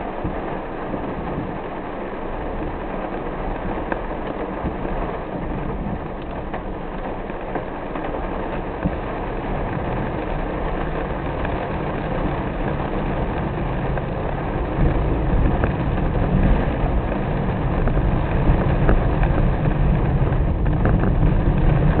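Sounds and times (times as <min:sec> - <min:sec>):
car tyres on wet road: 0:00.0 - 0:22.0
rain hitting car: 0:00.0 - 0:22.0.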